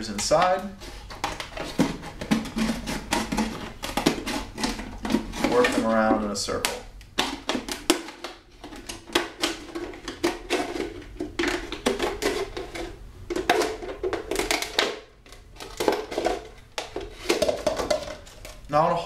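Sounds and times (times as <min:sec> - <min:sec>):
plastic bottle crinkling: 0:00.0 - 0:18.8.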